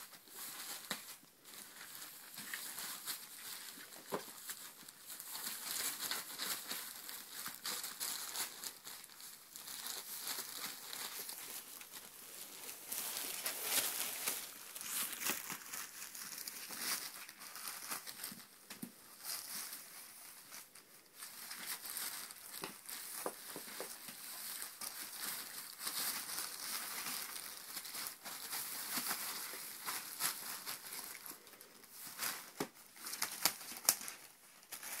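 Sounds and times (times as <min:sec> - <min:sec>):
plastic sheet crinkling: 0:00.0 - 0:35.0.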